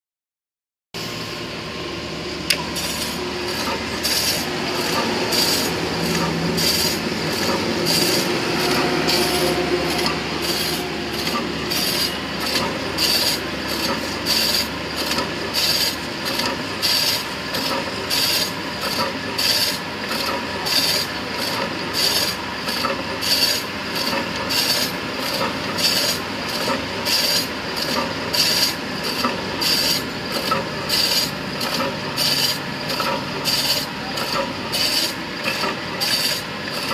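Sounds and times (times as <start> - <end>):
machine hum: 1.0 - 36.9
meat slicer cutting strokes: 2.5 - 36.9.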